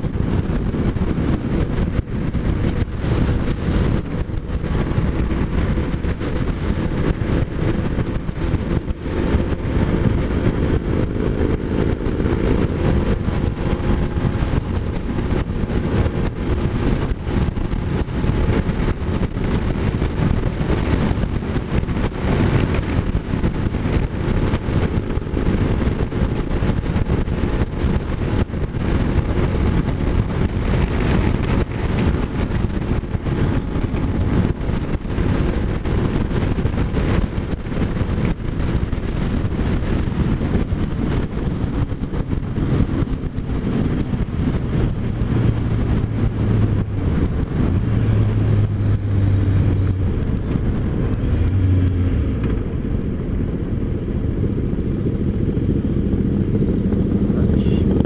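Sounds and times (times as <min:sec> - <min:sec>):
motorcycle engine running: 0:00.0 - 0:58.0
wind rush buffeting microphone: 0:00.0 - 0:58.0.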